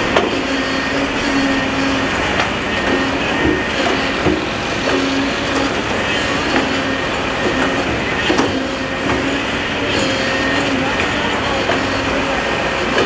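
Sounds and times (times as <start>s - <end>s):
diesel engines running: 0.0s - 13.0s
steel tracks clanking and squealing: 0.0s - 13.0s.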